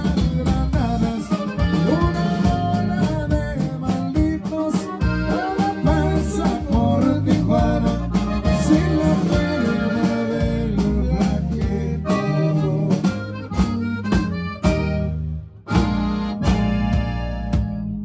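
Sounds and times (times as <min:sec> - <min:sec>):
button accordion melody: 0:00.0 - 0:18.0
drum kit beat: 0:00.0 - 0:18.0
guitar: 0:00.0 - 0:18.0.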